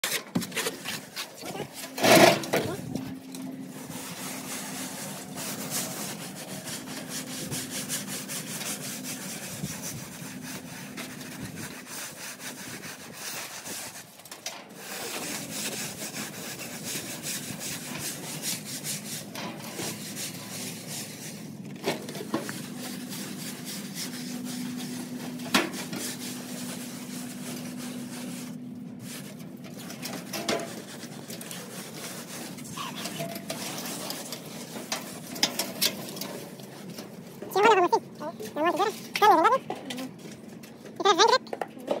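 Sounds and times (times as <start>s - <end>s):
float scraping render on wall: 0.0s - 42.0s.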